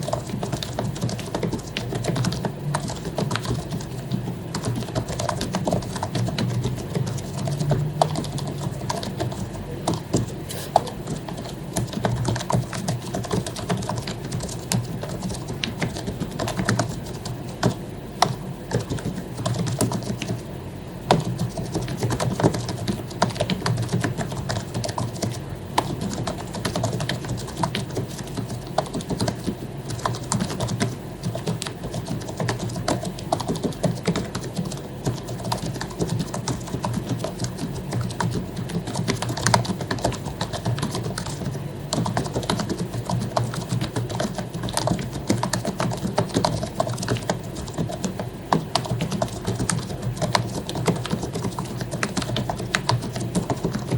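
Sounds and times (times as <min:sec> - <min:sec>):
keyboard typing: 0:00.0 - 0:53.9.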